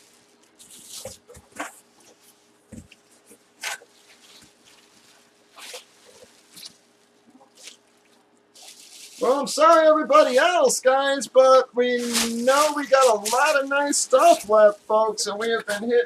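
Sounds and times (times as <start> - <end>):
plastic wrapping crinkling: 0.0 - 10.5, 11.8 - 16.0.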